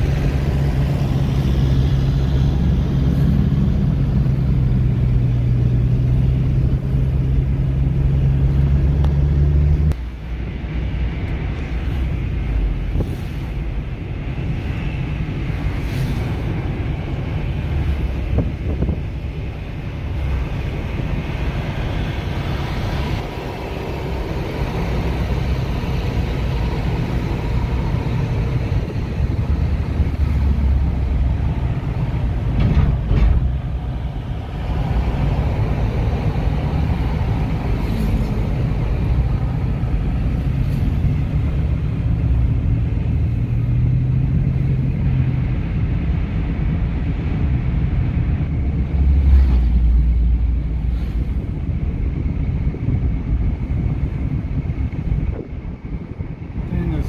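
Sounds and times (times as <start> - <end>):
car interior road rumble: 0.0 - 57.0.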